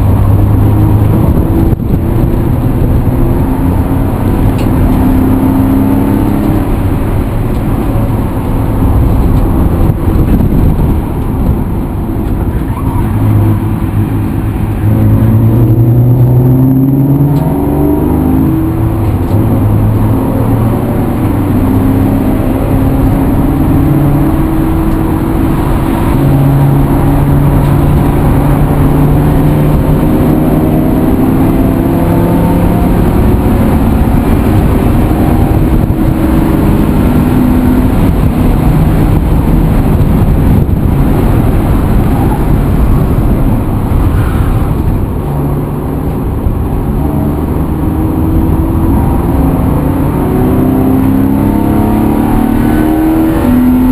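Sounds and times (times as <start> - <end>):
road noise: 0.0 - 53.9
vehicle engine accelerating: 0.0 - 53.9.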